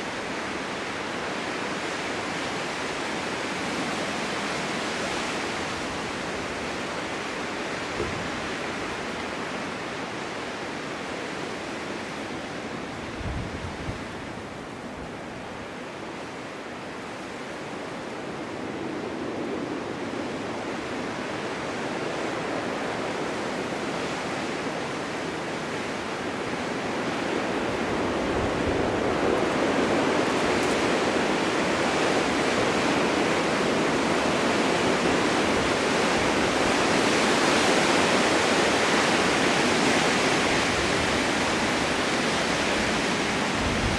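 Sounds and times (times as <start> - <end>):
wind blowing: 0.0 - 43.9.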